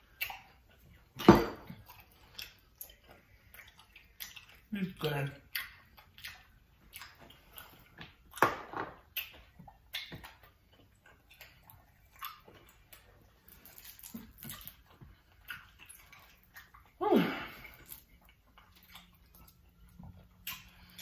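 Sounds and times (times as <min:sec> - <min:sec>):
wet smacking and chewing: 0:00.0 - 0:21.0.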